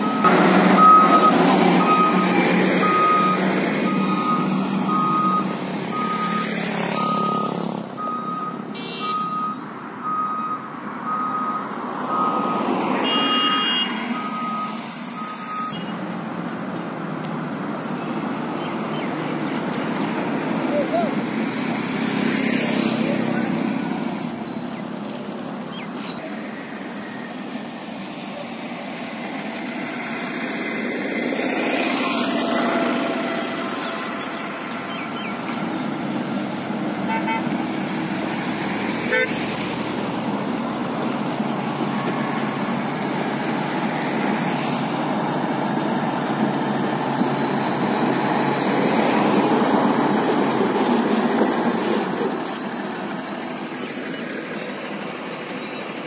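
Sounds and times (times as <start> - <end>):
motor grader diesel engine running: 0.0 - 56.0.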